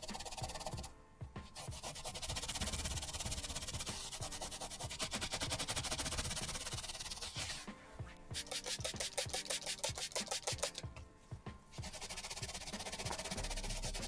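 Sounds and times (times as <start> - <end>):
rapid scratching strokes: 0.0 - 0.9, 1.5 - 10.8, 11.7 - 14.0
soft music: 0.0 - 14.0.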